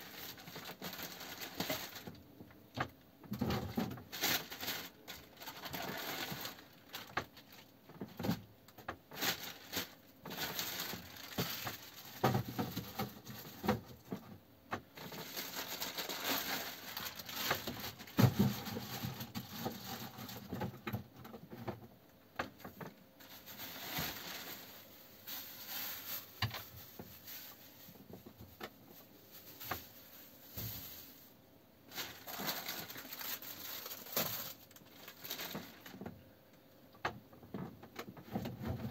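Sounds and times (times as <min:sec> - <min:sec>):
plastic bag rustling: 0:00.0 - 0:21.6, 0:22.5 - 0:36.2.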